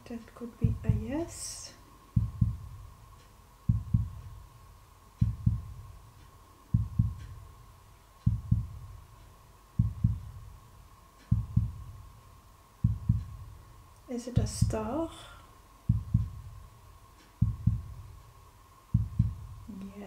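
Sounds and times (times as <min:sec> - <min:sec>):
heartbeat thuds: 0:00.6 - 0:15.1, 0:15.8 - 0:19.8.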